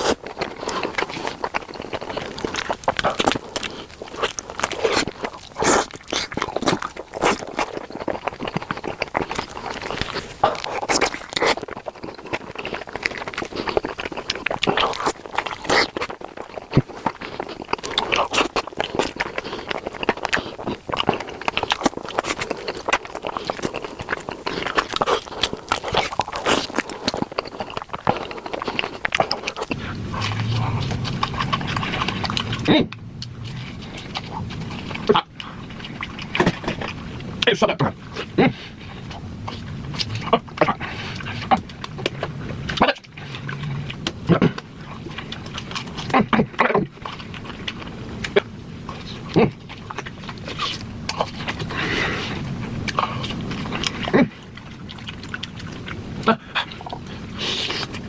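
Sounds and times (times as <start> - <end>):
chewing and biting chicken: 0.0 - 58.0.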